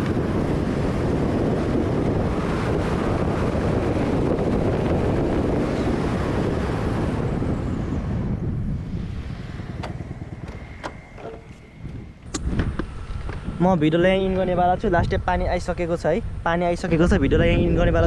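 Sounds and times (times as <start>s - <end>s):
motorcycle running: 0.0s - 16.0s
road noise: 0.0s - 18.0s
wind rushing over microphone: 0.0s - 18.0s.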